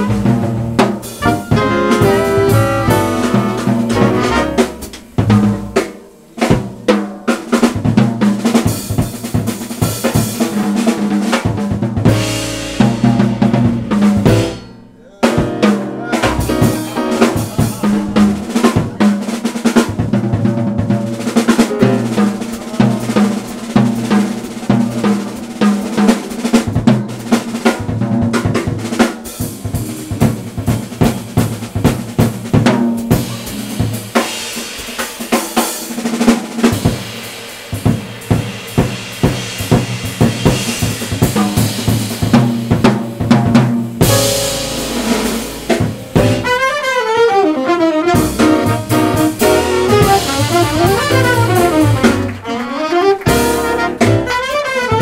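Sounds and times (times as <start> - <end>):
jazz drum solo: 0.0 - 55.0.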